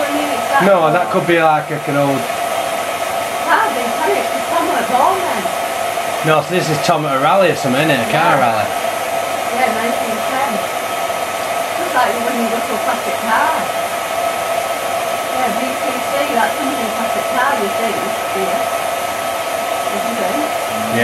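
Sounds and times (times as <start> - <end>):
film projector whirring: 0.0 - 21.0.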